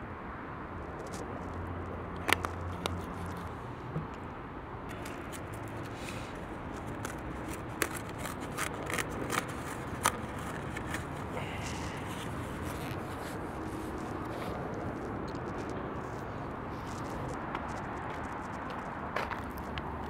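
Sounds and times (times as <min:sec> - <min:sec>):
steady low background hum: 0:00.0 - 0:19.8.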